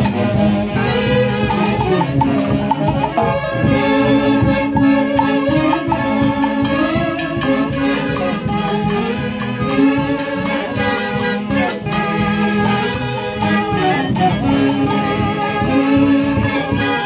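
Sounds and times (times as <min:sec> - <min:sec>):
orchestra melody: 0:00.0 - 0:17.0
percussion strikes: 0:00.0 - 0:17.0.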